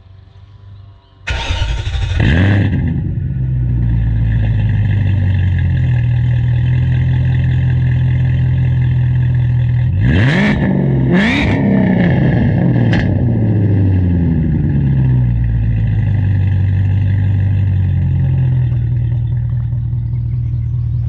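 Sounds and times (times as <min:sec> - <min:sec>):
car engine starting and idling: 0:01.3 - 0:11.1, 0:11.9 - 0:21.0.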